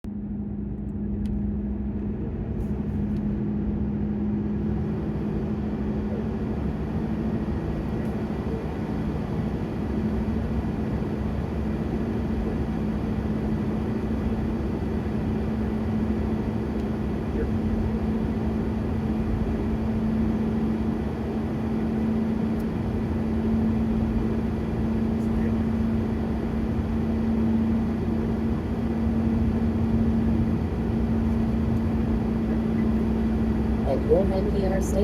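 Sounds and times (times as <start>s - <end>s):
car engine and road noise: 0.0s - 35.0s
low hum: 0.0s - 35.0s.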